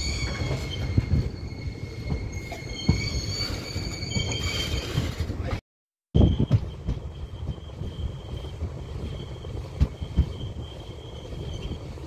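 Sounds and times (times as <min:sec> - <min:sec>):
wheel flange squeal: 0:00.0 - 0:05.3, 0:06.2 - 0:12.0
train rumbling: 0:00.0 - 0:05.6, 0:06.2 - 0:12.0.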